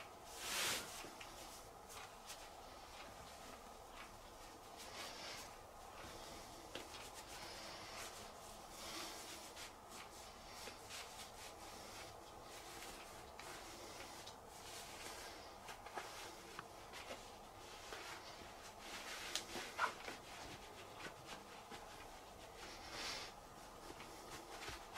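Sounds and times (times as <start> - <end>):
hands rubbing fabric: 0.0 - 24.9.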